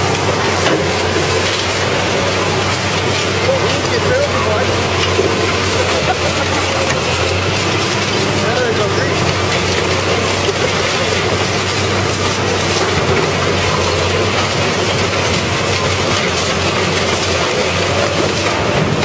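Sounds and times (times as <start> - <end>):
shredder grinding metal: 0.0 - 19.0.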